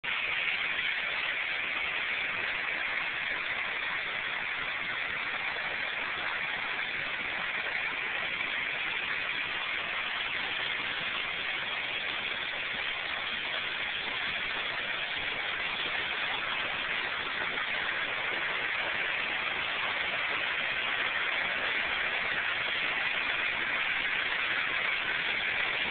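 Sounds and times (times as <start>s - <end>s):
water rushing along a wooden flume: 0.0s - 25.9s.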